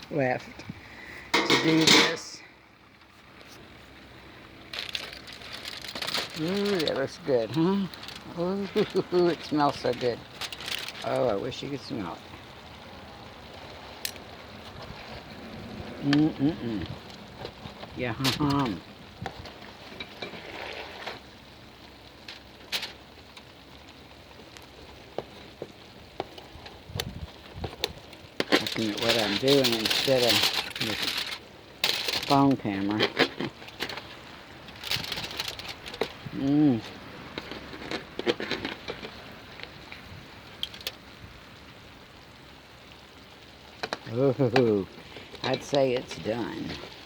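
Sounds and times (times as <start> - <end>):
chicken sizzling on a grill: 0.2 - 47.0.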